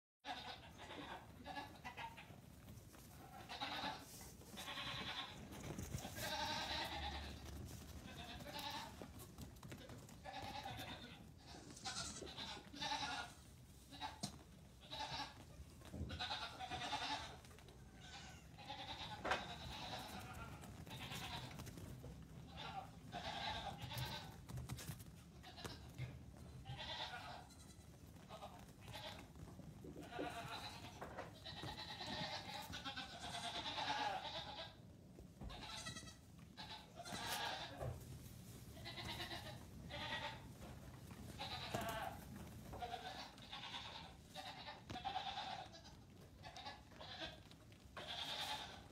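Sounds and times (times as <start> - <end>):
goat kids bleating: 0.2 - 38.0, 38.7 - 48.9.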